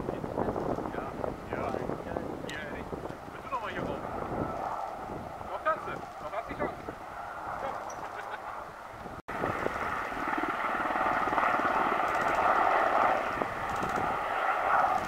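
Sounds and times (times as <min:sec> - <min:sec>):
helicopter rotor beating: 0:00.0 - 0:15.0
turbine whine: 0:00.0 - 0:15.0.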